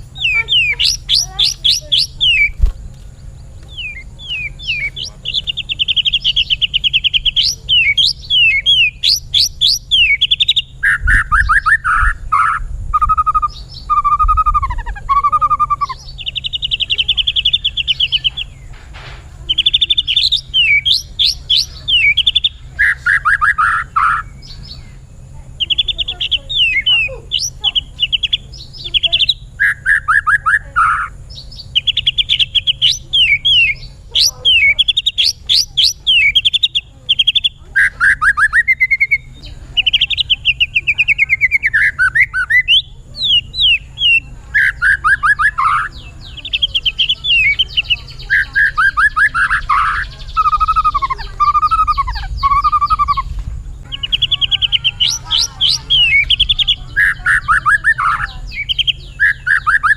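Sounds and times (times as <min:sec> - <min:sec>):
bird singing trills and whistles: 0:00.0 - 0:59.9.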